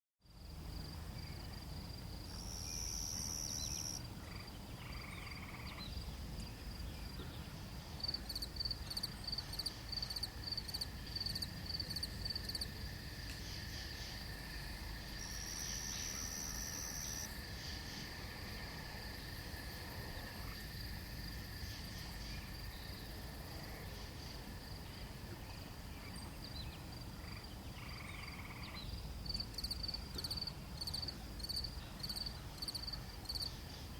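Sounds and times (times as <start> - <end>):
crickets trilling: 0.3 - 33.9
rapid pulsed insect chirps: 0.3 - 33.9.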